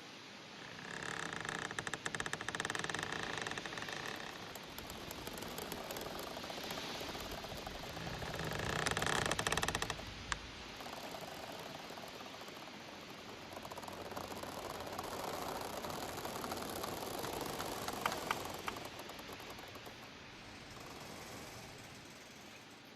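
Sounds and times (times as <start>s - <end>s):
steady rustle: 0.0s - 22.9s
bamboo stalks creaking: 0.4s - 22.9s.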